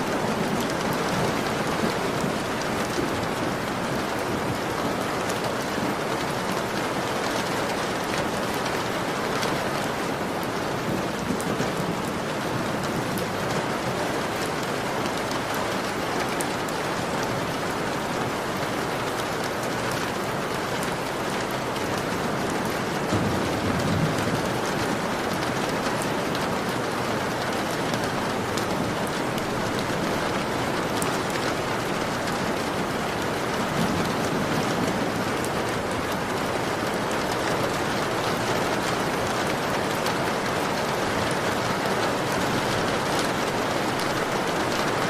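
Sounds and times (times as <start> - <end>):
heavy rain on a window: 0.0 - 45.0.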